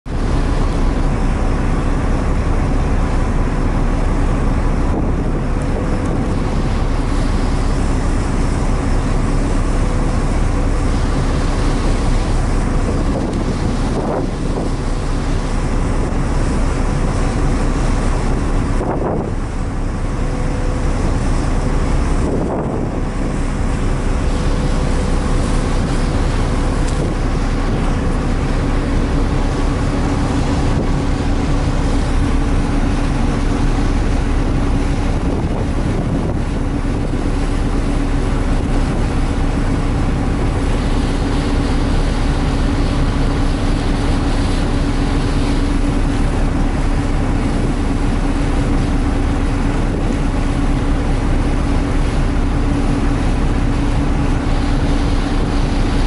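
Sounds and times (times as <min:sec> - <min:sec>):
water rushing along hull: 0:00.0 - 0:56.0
ship engines droning: 0:00.1 - 0:56.0
wind buffeting microphone: 0:00.1 - 0:56.0.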